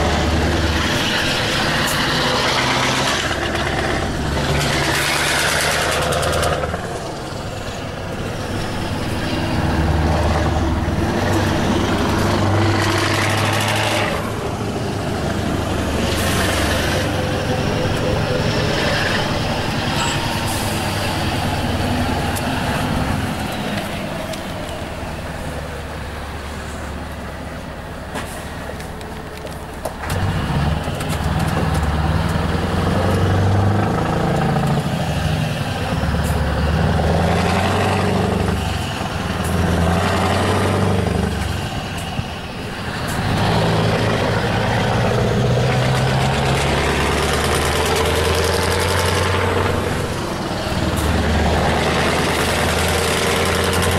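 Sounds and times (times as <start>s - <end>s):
truck engine accelerating: 0.0s - 53.9s.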